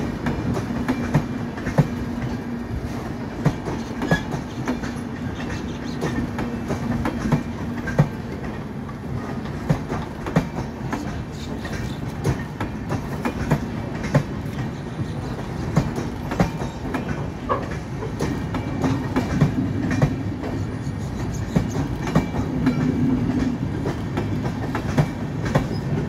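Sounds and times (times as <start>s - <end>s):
train coaches rolling past: 0.0s - 26.0s.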